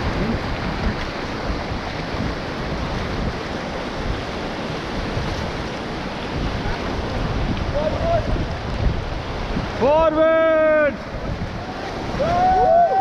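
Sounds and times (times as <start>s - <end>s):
rushing river water: 0.0s - 13.0s
wind buffeting microphone: 0.0s - 13.0s.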